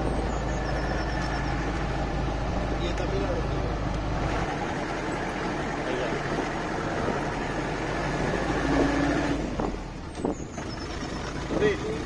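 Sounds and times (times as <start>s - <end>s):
jeep driving on a track: 0.0s - 12.0s.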